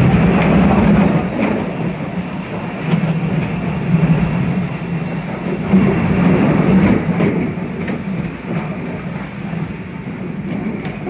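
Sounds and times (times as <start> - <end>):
train running: 0.0 - 11.0.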